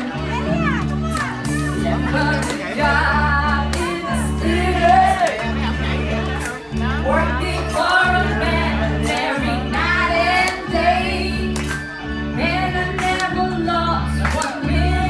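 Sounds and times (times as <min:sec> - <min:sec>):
song with singing over bass: 0:00.0 - 0:15.0.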